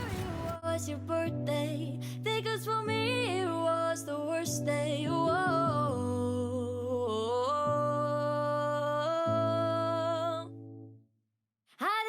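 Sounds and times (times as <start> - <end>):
pop song with singer: 0.0 - 10.5, 11.8 - 12.0.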